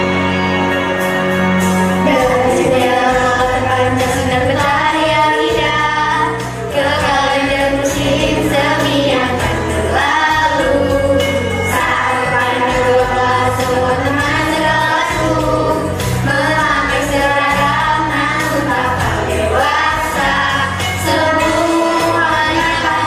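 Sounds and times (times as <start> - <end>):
instrumental music: 0.0 - 23.0
voices singing: 2.0 - 23.0.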